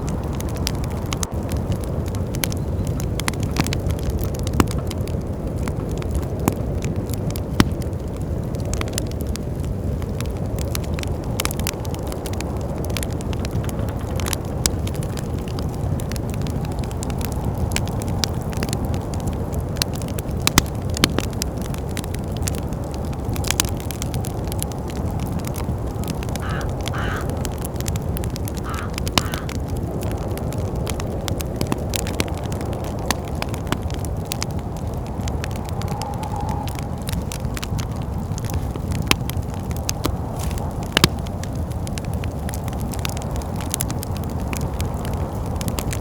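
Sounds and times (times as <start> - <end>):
low rumble of wind: 0.0 - 46.0
wood fire crackling and popping: 0.0 - 46.0.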